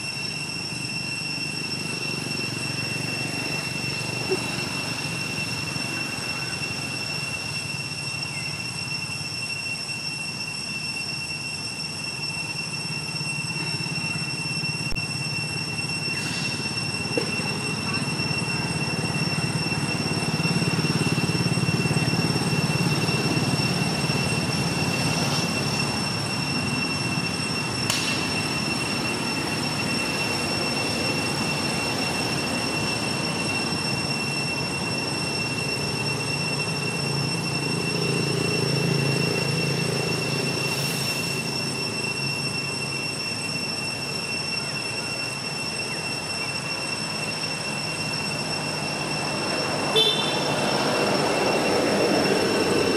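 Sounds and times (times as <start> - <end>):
high-pitched whine: 0.0 - 52.9.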